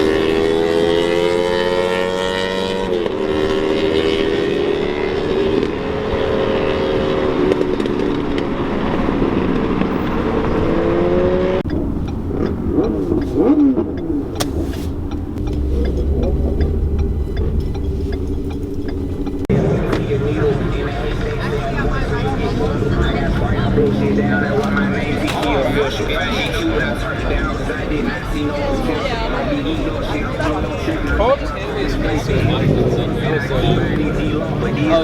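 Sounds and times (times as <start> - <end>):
engine running with wavering pitch: 0.0 - 35.0
vehicle engine accelerating: 0.0 - 35.0.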